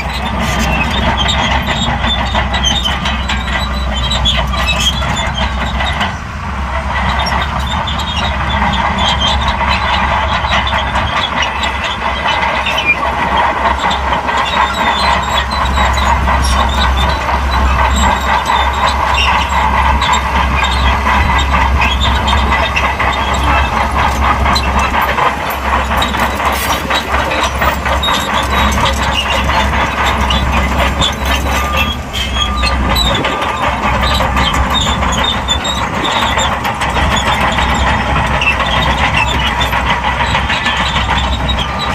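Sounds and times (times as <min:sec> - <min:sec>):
bulldozer diesel engine running: 0:00.0 - 0:41.9
steel tracks clattering: 0:00.0 - 0:41.9.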